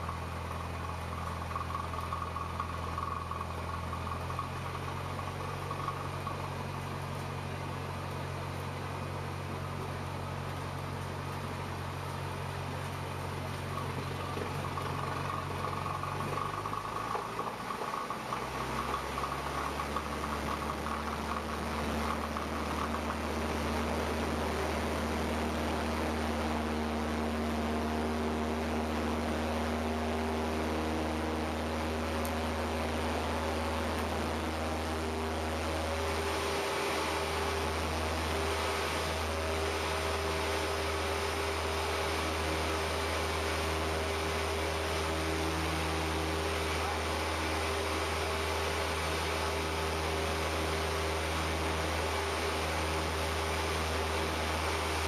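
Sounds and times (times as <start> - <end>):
airplane engine and propeller: 0.0 - 55.0.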